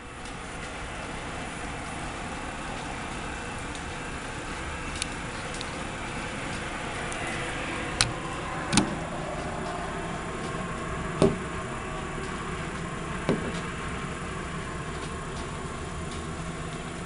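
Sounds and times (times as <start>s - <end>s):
steady rushing drone: 0.0s - 17.0s.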